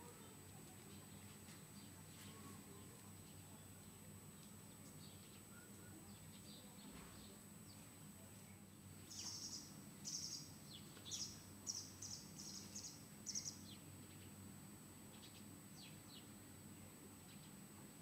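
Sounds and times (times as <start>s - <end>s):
small birds chirping: 0.0s - 8.0s, 8.7s - 17.7s
faint low hum: 0.0s - 18.0s.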